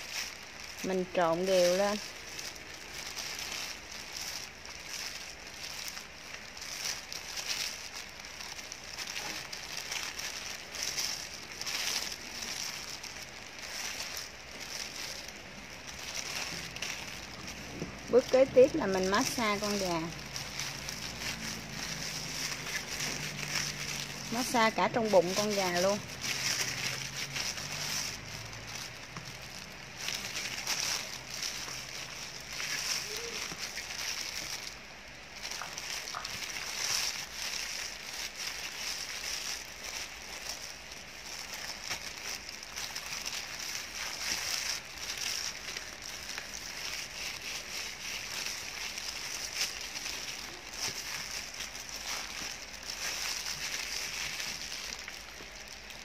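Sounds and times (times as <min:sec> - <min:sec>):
plastic glove crinkling: 0:00.0 - 0:56.0
wet squishing of marinade: 0:00.0 - 0:56.0.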